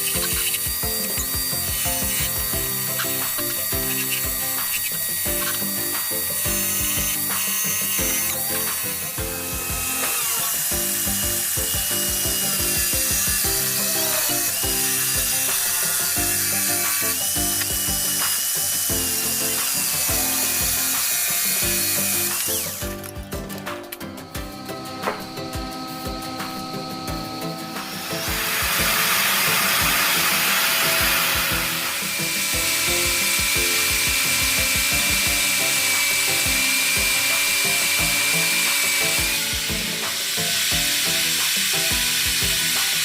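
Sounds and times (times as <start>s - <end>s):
background music: 0.0s - 43.0s
power tool whining: 0.0s - 43.0s.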